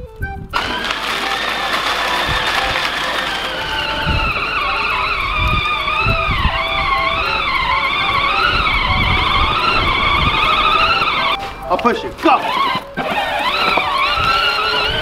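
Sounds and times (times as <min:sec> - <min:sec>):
electric toy tractor motor whine: 0:00.6 - 0:11.4, 0:12.3 - 0:15.0.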